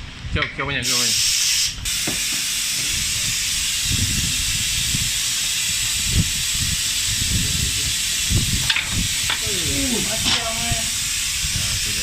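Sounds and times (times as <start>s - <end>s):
air jet hissing: 0.8s - 12.0s.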